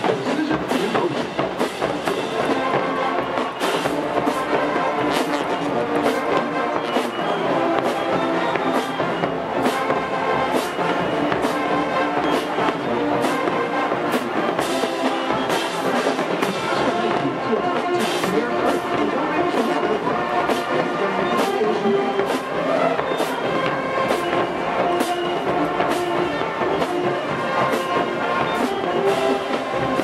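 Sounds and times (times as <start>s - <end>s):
drumline strikes: 0.0s - 30.0s
marching band playing: 0.0s - 30.0s.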